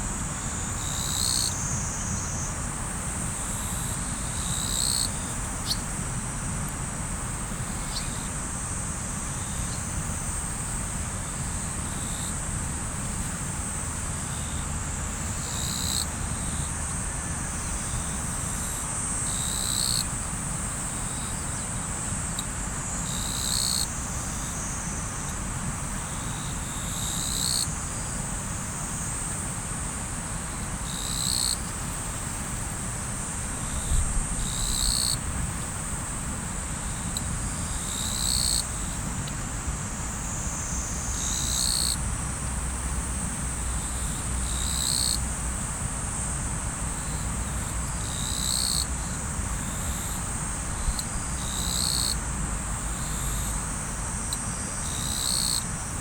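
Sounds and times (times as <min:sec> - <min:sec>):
insects trilling: 0:00.0 - 0:56.0
louder insect call: 0:00.0 - 0:56.0.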